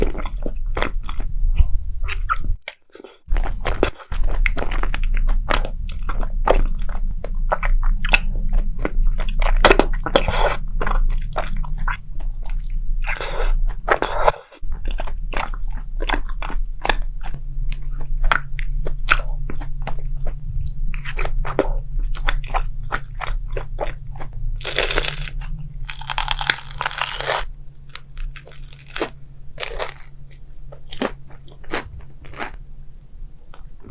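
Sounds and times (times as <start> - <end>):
steady low hum: 0.0 - 2.6, 3.2 - 33.9
crunchy food being chewed: 0.0 - 33.9.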